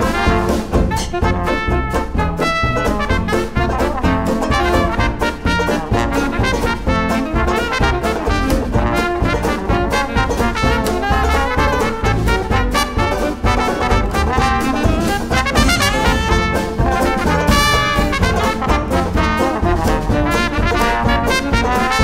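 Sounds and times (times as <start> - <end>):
jazz band playing: 0.0 - 22.0
trombone: 0.0 - 22.0
trumpet: 0.0 - 22.0.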